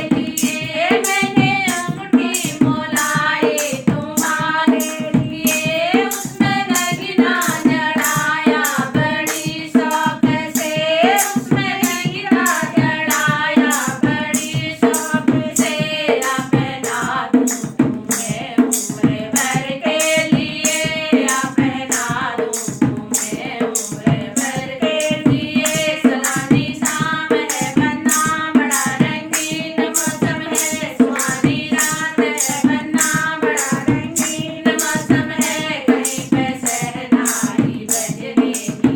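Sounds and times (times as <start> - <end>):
folk song singing: 0.0 - 38.9
hand drum beat: 0.0 - 38.9.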